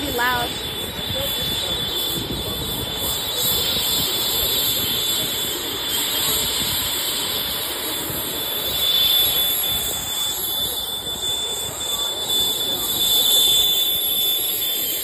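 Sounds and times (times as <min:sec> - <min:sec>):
jet turbine engine whine: 0:00.0 - 0:15.0.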